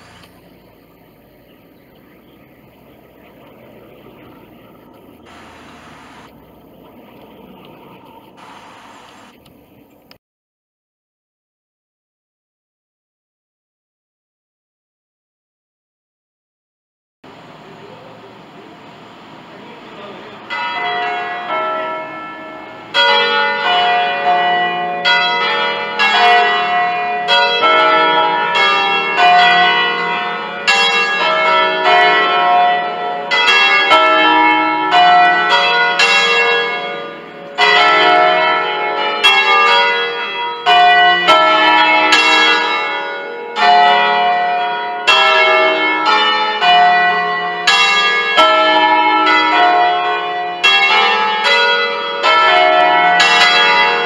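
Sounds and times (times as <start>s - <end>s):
church bells ringing: 0.0s - 9.9s, 19.3s - 54.0s.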